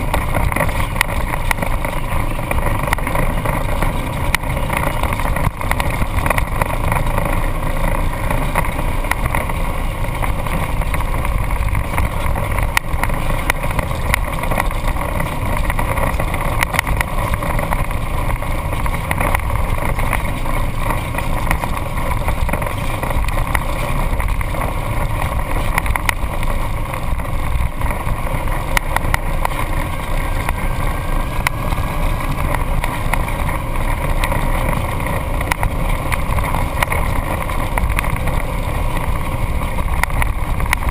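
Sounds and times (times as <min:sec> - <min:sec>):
off-road vehicle engine running: 0:00.0 - 0:40.9.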